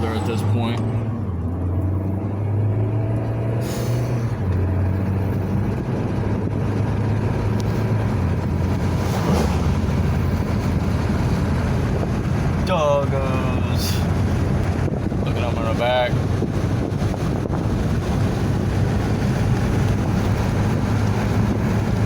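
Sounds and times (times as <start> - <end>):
car engine drone: 0.0 - 22.0
tyre and road noise: 0.0 - 22.0.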